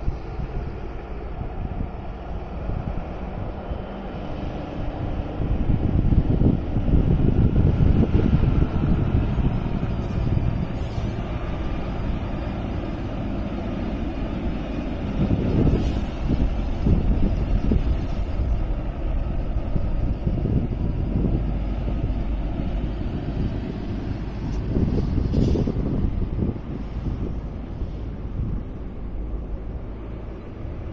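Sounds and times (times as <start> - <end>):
heavy diesel truck engines rumbling: 0.0 - 30.9
wind on microphone: 0.0 - 30.9.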